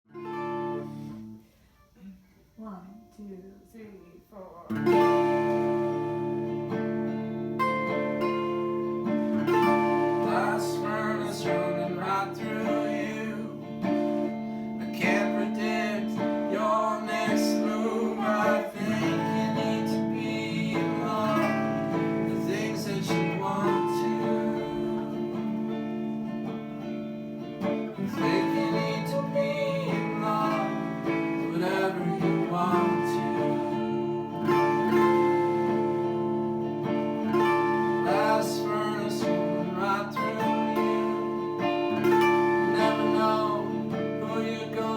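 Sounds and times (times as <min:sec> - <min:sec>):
guitar music: 0:00.1 - 0:44.9.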